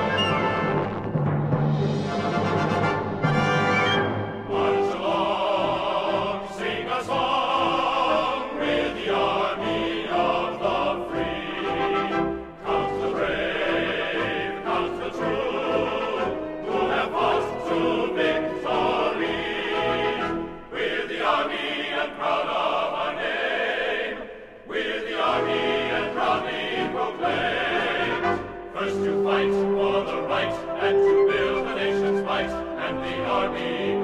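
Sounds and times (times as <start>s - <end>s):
choir singing: 2.1s - 34.0s.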